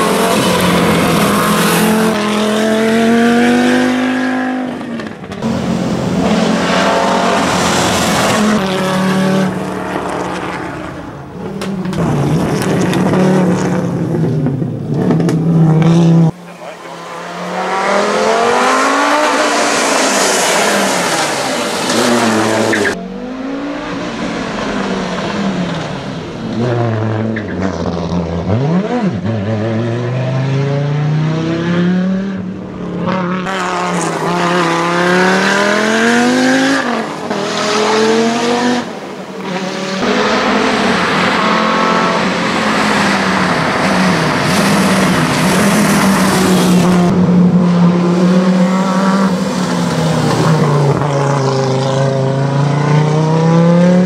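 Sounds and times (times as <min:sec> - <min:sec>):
rally car engine revving hard: 0:00.0 - 0:10.9, 0:11.5 - 0:54.0.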